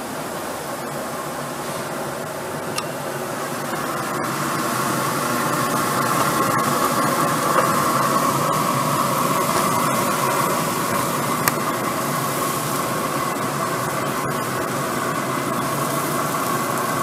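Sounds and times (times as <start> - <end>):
chicken sizzling on grill: 0.6 - 17.0.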